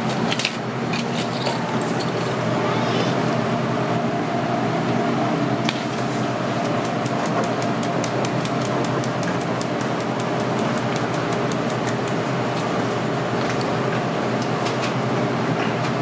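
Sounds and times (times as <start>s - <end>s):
kitchen hum: 0.0s - 16.0s.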